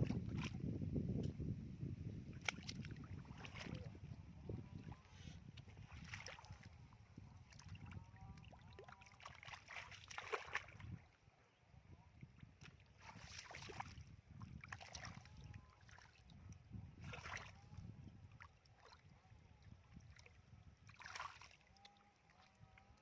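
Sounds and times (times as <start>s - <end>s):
shallow muddy water sloshing: 0.0s - 1.4s, 2.0s - 23.0s.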